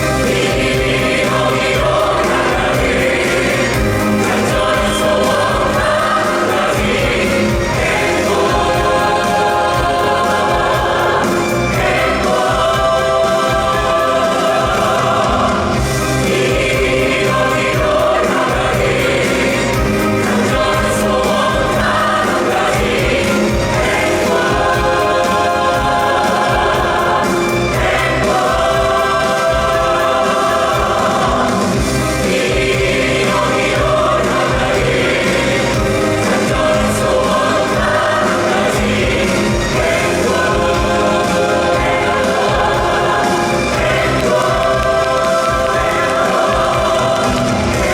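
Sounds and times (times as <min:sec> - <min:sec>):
choir singing with orchestra: 0:00.0 - 0:47.9.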